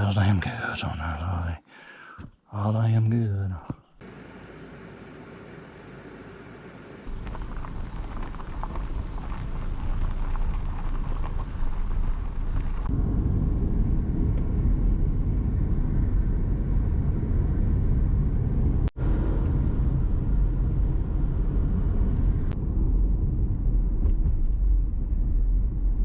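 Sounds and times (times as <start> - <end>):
road and engine rumble inside car: 4.0 - 26.0.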